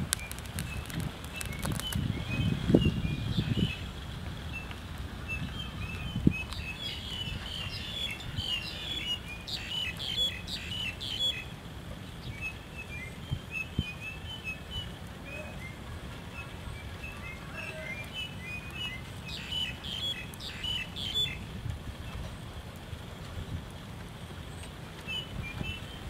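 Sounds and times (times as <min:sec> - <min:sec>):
small birds chirping: 0:00.0 - 0:21.5, 0:24.4 - 0:26.0.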